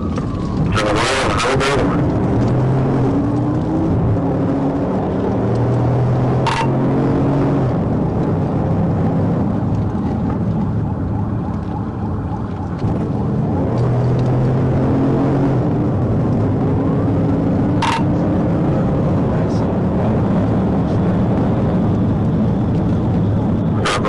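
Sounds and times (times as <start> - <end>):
car engine drone and road noise: 0.0 - 24.0.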